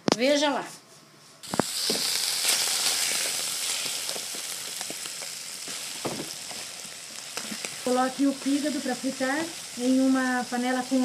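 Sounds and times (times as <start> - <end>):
liver sizzling in hot oil: 1.4 - 11.0.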